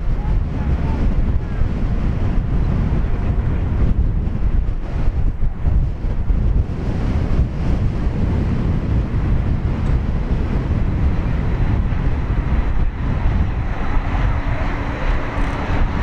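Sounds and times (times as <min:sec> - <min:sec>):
jet engine noise: 0:00.0 - 0:16.0
steady hum: 0:00.0 - 0:16.0
wind buffeting microphone: 0:00.0 - 0:16.0.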